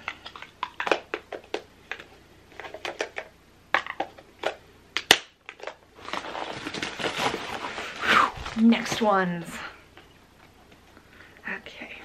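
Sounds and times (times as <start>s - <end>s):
plastic crinkling: 0.0s - 10.1s.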